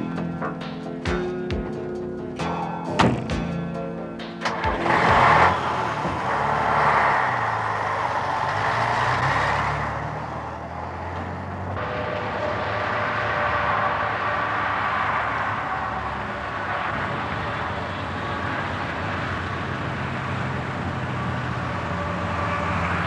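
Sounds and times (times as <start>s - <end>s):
diesel truck engine running: 0.0s - 23.0s
steady vehicle noise: 0.0s - 23.0s.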